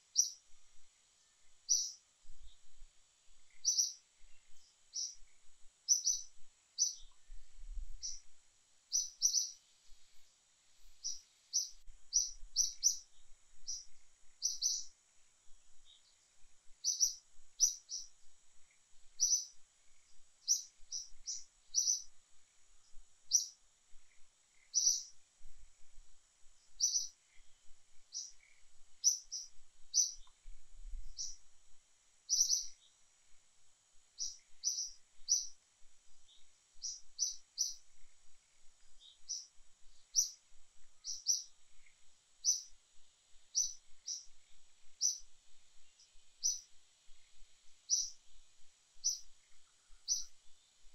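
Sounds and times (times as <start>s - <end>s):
bird chirping: 0.0s - 0.6s, 1.2s - 15.0s, 15.7s - 25.2s, 26.6s - 31.5s, 32.3s - 33.0s, 34.2s - 48.4s, 49.0s - 50.9s
steady high hiss: 0.0s - 50.9s.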